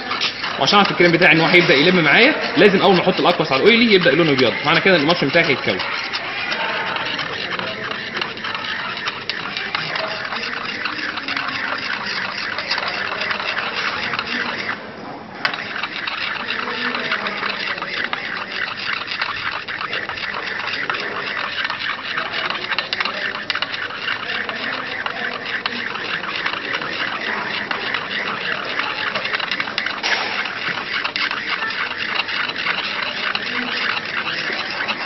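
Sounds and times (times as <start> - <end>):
cream stirred in porcelain dish: 0.0 - 35.0.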